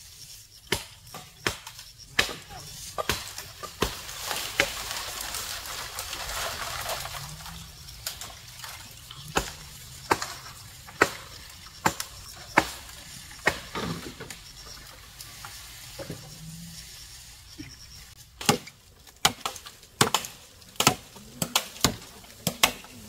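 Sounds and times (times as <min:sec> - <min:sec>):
wood chopping strokes: 0:00.5 - 0:16.4, 0:17.6 - 0:23.0.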